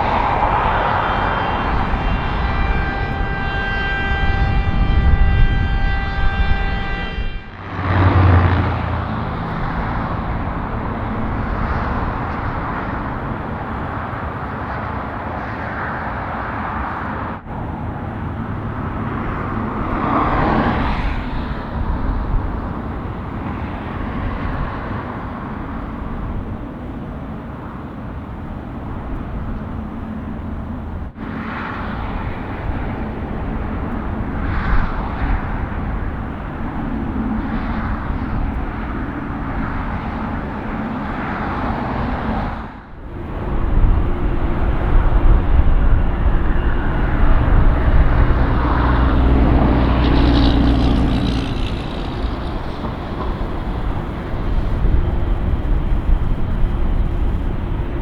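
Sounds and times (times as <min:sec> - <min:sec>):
heavy low rumble: 0:00.0 - 0:15.7, 0:17.3 - 0:58.0
jet engine rushing: 0:00.0 - 0:58.0.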